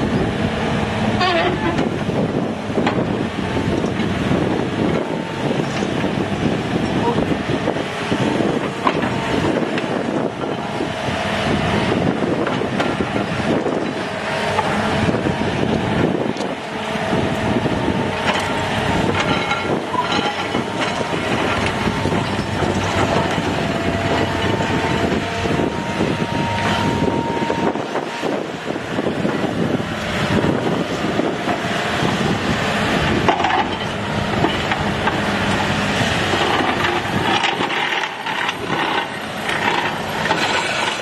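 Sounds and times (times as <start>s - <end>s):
excavator engine and hydraulics: 0.0s - 41.0s.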